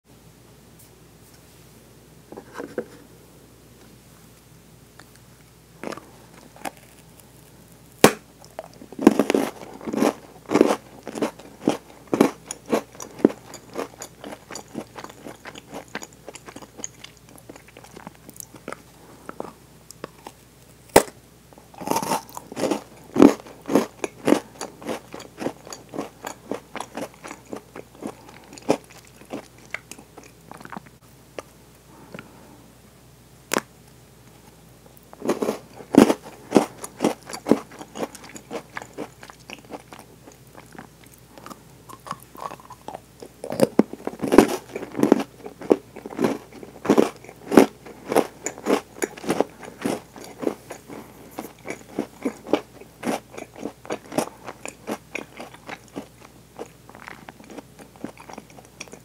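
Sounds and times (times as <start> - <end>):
crunchy chewing: 5.0 - 31.6, 34.9 - 59.0.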